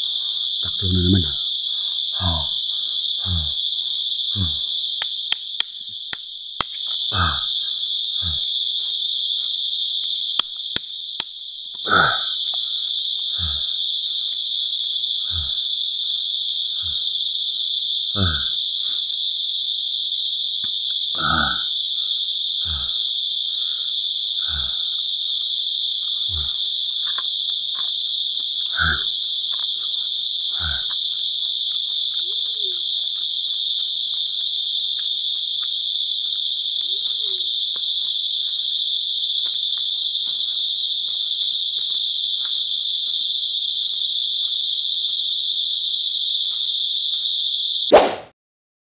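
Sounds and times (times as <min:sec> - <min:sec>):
forest insects droning: 0:00.0 - 0:48.0.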